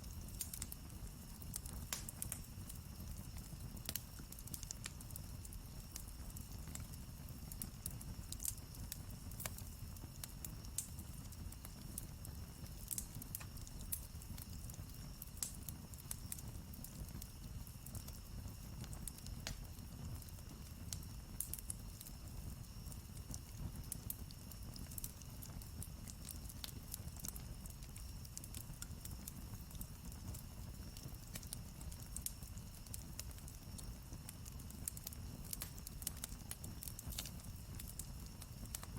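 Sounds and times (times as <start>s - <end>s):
flames rumbling: 0.0s - 38.9s.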